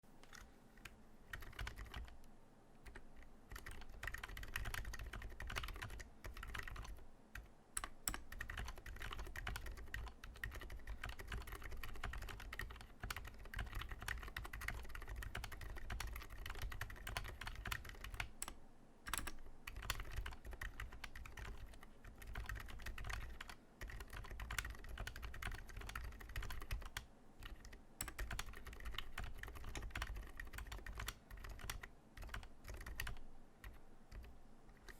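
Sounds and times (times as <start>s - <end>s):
soft mechanical keyboard typing: 0.2s - 34.9s.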